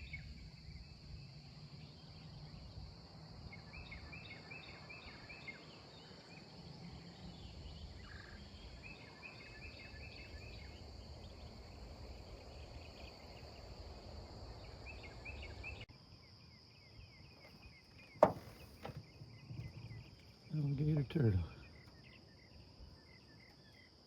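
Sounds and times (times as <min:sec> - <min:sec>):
high insect drone: 0:00.0 - 0:24.0
songbird chirping: 0:00.0 - 0:24.0.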